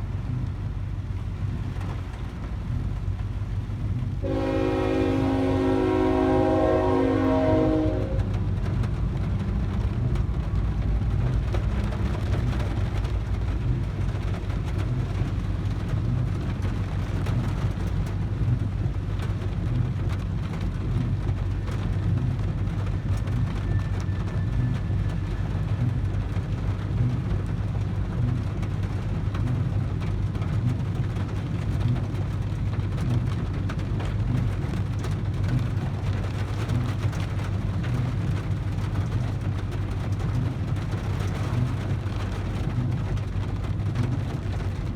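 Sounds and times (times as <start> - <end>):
heavy rain on car roof: 0.0 - 44.9
steady low rumble: 0.0 - 44.9.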